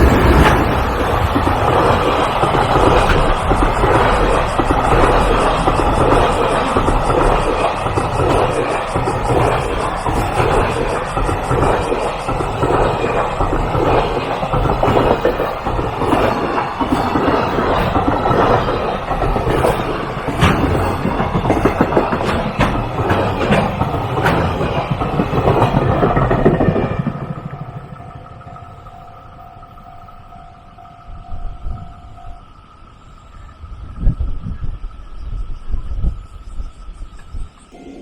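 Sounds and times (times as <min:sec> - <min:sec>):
wheels clacking over rail joints: 0:00.0 - 0:32.5
train wheels rushing on rail: 0:00.0 - 0:38.0.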